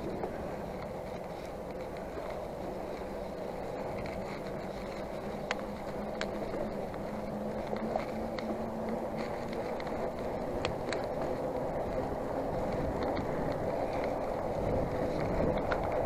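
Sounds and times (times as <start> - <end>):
bike tyres rolling on asphalt: 0.0 - 16.0
low hum: 0.0 - 16.0.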